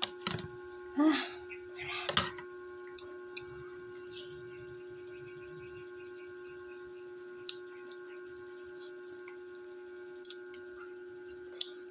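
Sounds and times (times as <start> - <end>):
electrical hum with higher tones: 0.0 - 11.9.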